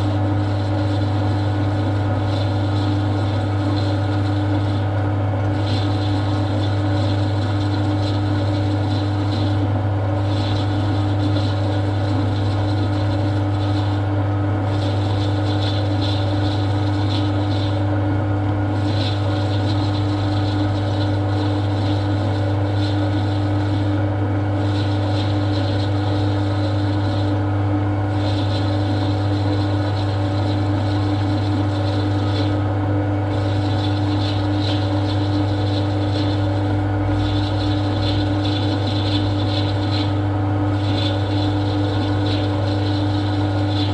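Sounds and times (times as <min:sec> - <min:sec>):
lathe motor hum: 0:00.0 - 0:43.9.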